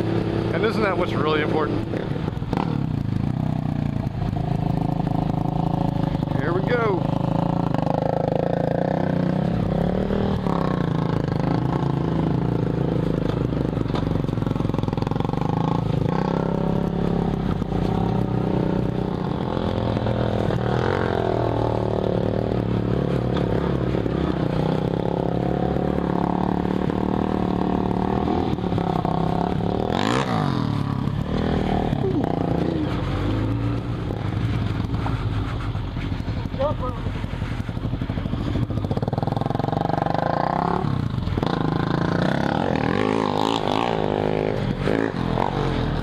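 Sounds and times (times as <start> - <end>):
clatter over rough dirt: 0.0 - 46.0
motorcycle engine running: 0.0 - 46.0.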